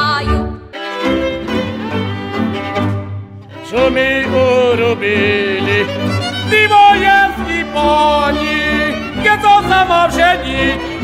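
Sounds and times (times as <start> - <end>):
fiddle melody with vibrato: 0.0 - 11.0.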